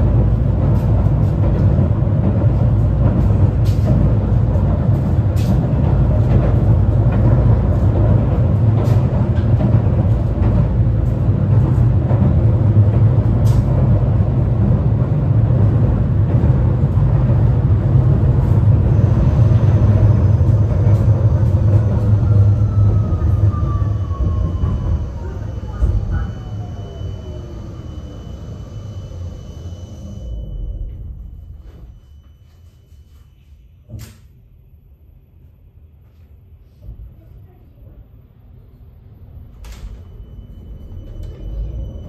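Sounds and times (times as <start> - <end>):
tram wheels rumbling: 0.0 - 32.3, 36.7 - 42.0.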